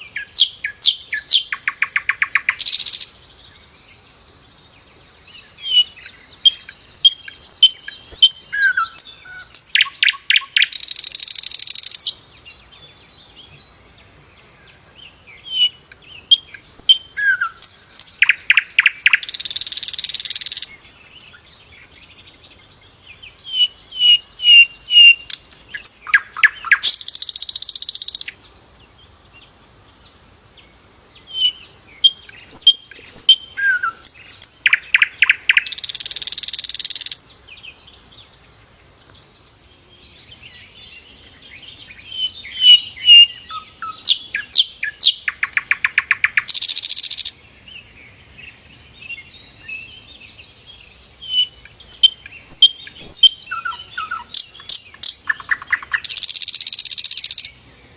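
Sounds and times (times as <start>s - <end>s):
flycatcher singing: 0.0s - 13.8s, 14.7s - 28.6s, 31.2s - 38.4s, 39.3s - 47.8s, 48.4s - 57.6s.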